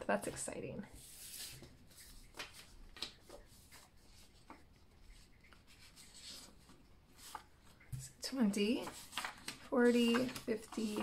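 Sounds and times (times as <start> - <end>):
paper bills rustling: 1.0 - 7.8, 8.6 - 11.0.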